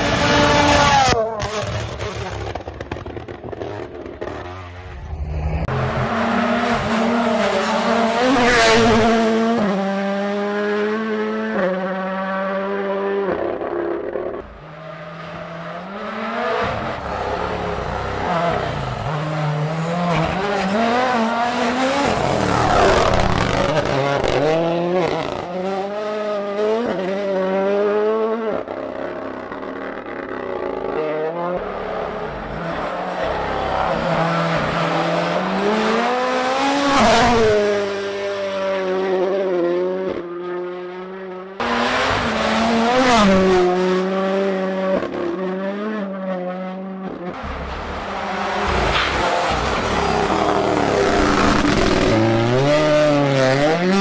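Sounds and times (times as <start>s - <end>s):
rally cars accelerating past: 0.0s - 54.0s.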